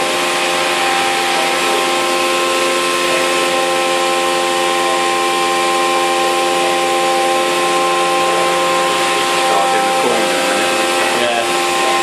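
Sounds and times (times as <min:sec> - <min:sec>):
milling machine whine: 0:00.0 - 0:12.0.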